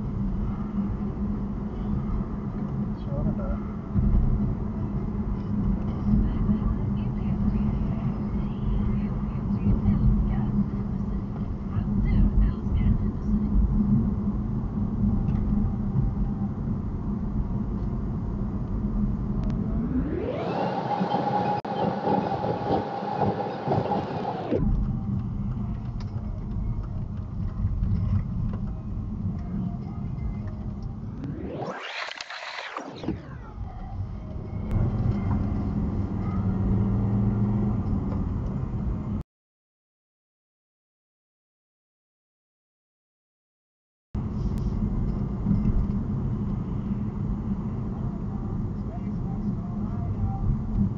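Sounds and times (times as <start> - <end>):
car cabin road and engine rumble: 0.0 - 39.2, 44.2 - 50.9.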